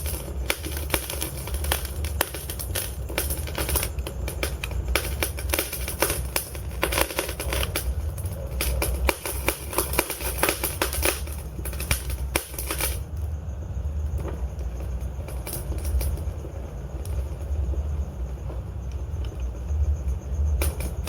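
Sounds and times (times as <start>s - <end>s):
log fire crackling and popping: 0.0s - 21.0s
low rumble of flames: 0.0s - 21.0s.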